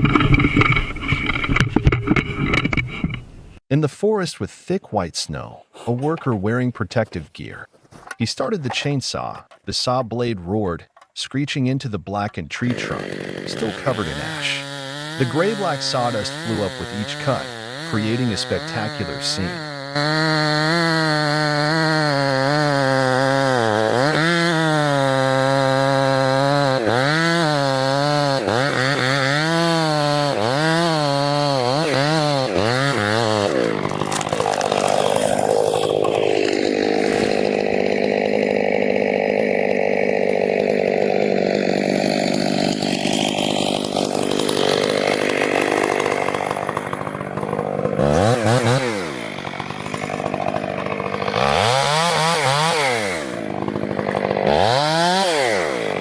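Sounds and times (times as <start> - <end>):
chainsaw cutting wood: 0.0 - 3.4, 12.6 - 56.0.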